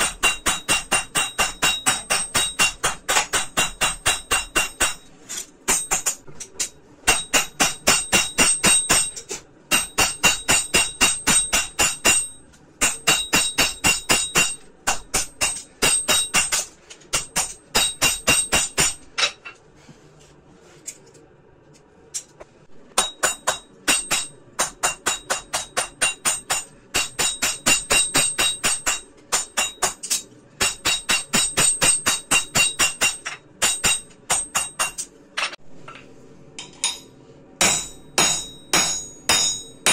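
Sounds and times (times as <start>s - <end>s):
hammer striking steel on anvil: 0.0s - 19.5s, 22.9s - 35.6s, 36.6s - 39.9s.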